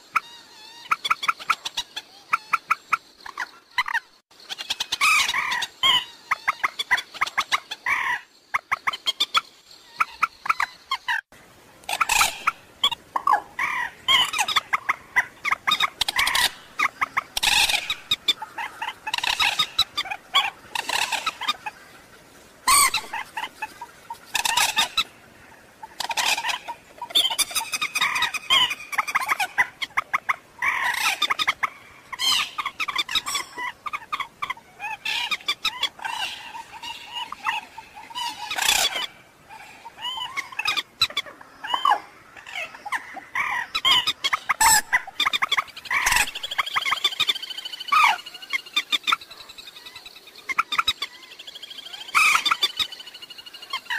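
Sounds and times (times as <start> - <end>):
moorhen clucking calls: 0.0 - 11.2, 11.8 - 53.9.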